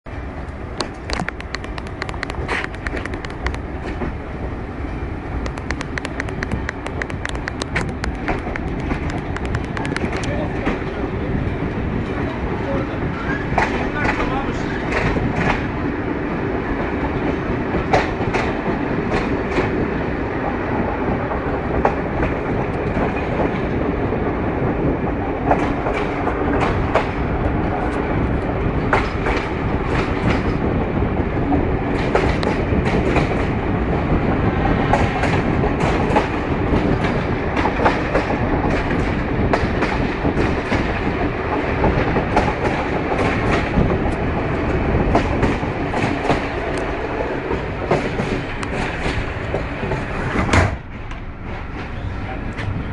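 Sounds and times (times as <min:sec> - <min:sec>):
rumble of wheels on rail: 0:00.0 - 0:52.9
clickety-clack over rail joints: 0:00.3 - 0:52.9.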